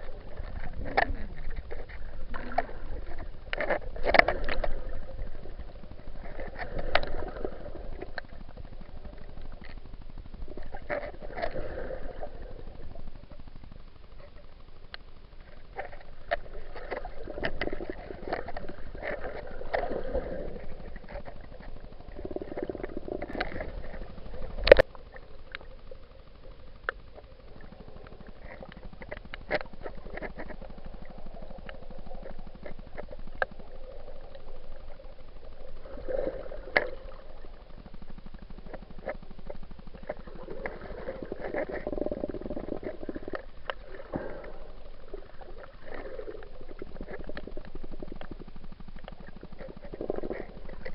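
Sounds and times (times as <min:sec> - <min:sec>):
muffled water sloshing: 0:00.0 - 0:50.9
small clicks: 0:00.1 - 0:50.9.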